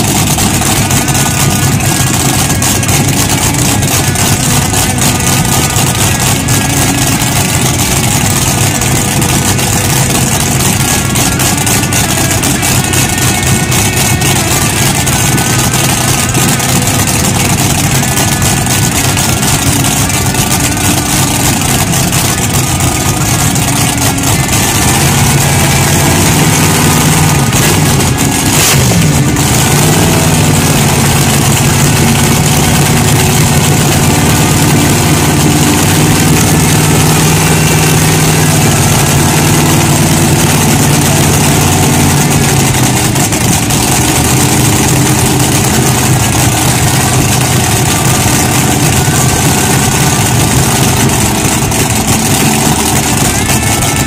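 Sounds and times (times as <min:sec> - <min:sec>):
dragster engine idling loudly: 0:00.0 - 0:54.0.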